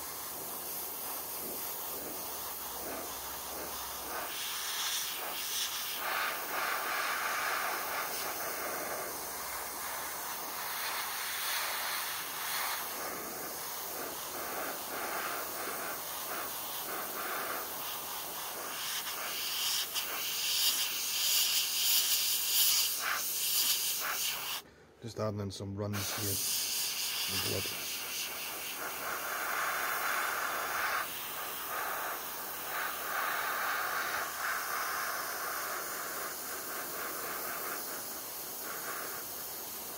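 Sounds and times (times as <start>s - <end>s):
airbrush hissing: 0.0s - 24.7s, 25.9s - 39.9s.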